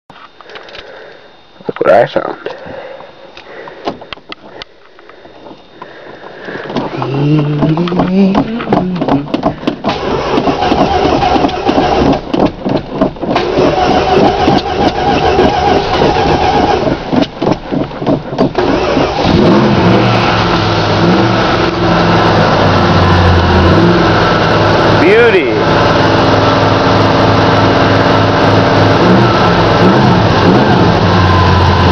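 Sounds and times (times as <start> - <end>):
car engine running steadily: 0.1 - 31.9
car engine cranking and starting: 3.4 - 31.9.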